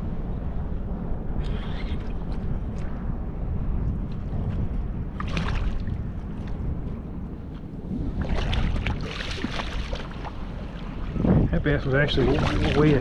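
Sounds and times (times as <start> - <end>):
water noise: 0.0 - 13.0
wind: 0.0 - 13.0.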